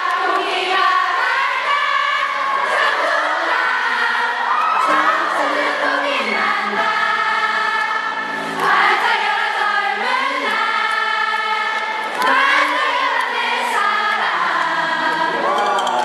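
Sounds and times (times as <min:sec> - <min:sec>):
crowd singing along: 0:00.0 - 0:16.0.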